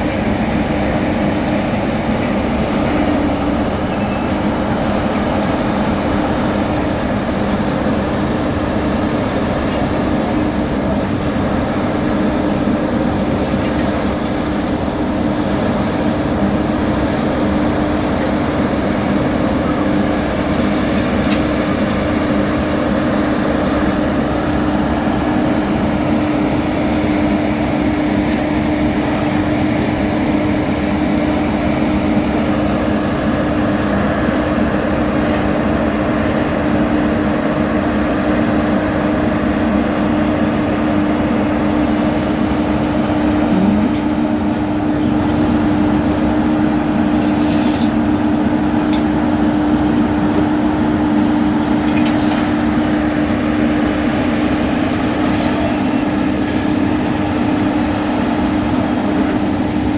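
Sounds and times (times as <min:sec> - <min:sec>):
constant pitched hum: 0:00.0 - 0:59.9
diesel engine drone: 0:00.0 - 0:59.9.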